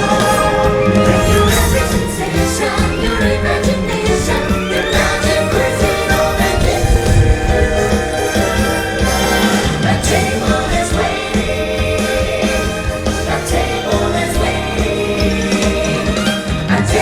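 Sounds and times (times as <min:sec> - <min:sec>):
upbeat stage music with singing: 0:00.0 - 0:17.0.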